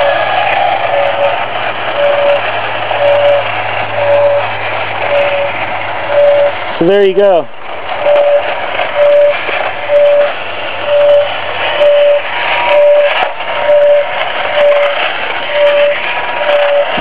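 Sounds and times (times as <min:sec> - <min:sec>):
siren beep: 0:00.0 - 0:00.2, 0:00.9 - 0:06.6, 0:08.0 - 0:17.0.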